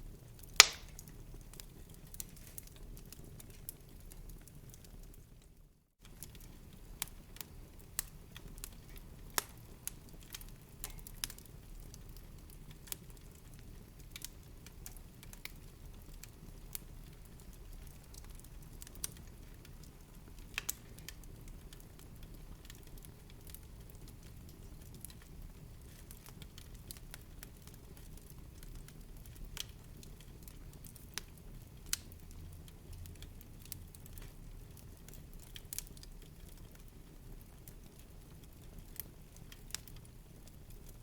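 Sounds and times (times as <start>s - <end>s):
fireplace fire crackling: 0.0s - 41.0s.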